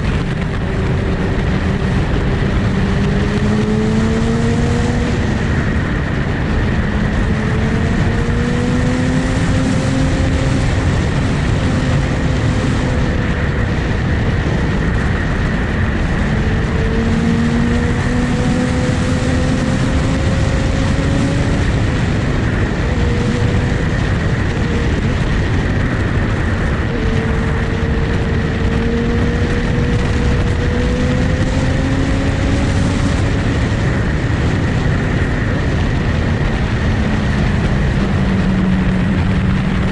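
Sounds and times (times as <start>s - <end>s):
loud steady rush: 0.0s - 39.9s
motorcycle engine running: 0.0s - 39.9s.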